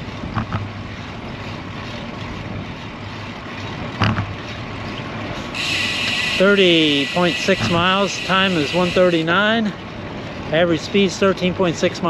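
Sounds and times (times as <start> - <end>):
bicycle road noise: 0.0 - 12.0.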